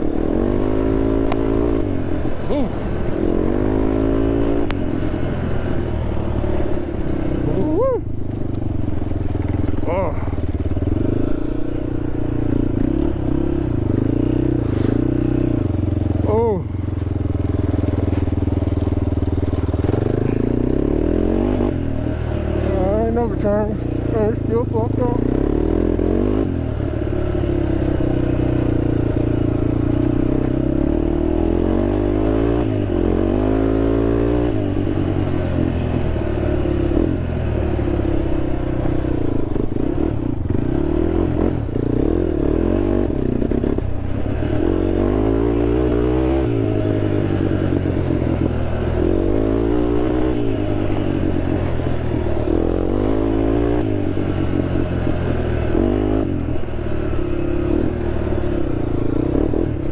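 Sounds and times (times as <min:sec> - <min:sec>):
quad engine revving: 0:00.0 - 0:08.0, 0:12.4 - 0:59.9.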